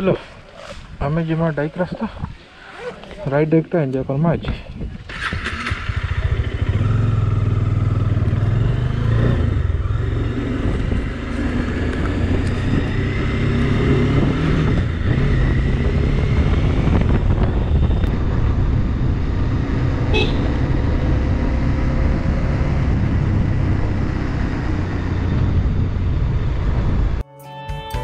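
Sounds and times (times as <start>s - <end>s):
motorcycle engine riding: 4.4s - 27.2s.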